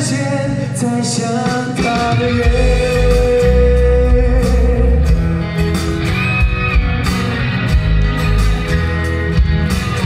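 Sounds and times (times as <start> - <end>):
guitar-led instrumental: 0.0 - 10.0
pop-rock song: 0.0 - 10.0.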